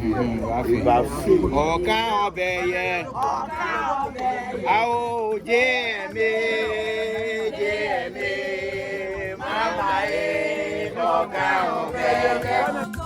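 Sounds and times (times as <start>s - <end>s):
voices singing a chant: 2.3s - 13.0s.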